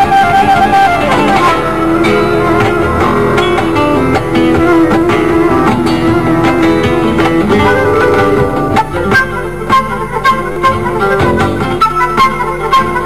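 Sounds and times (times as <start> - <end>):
acoustic flamenco guitars picking: 0.0 - 13.0
cajon drumming: 0.0 - 13.0
fretless bass: 0.0 - 13.0.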